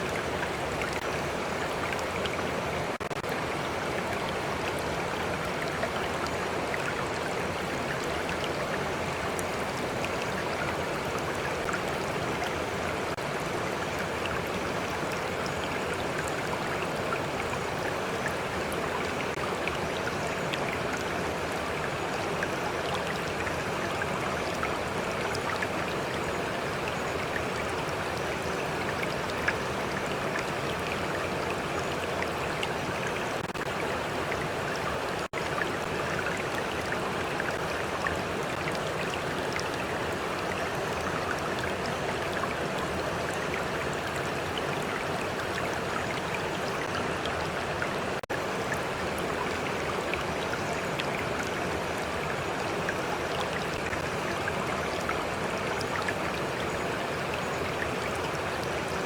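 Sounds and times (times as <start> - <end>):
small stream flowing: 0.0 - 59.0.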